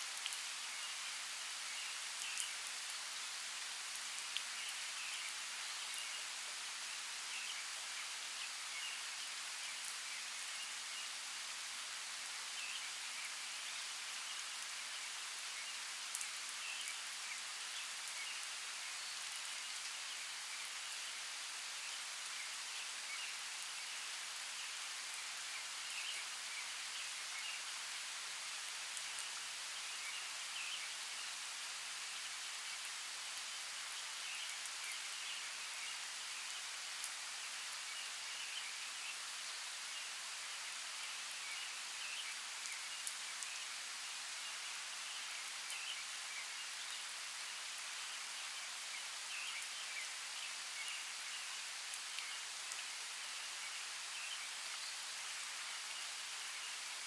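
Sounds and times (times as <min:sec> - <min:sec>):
rain hissing on forest: 0:00.0 - 0:57.0.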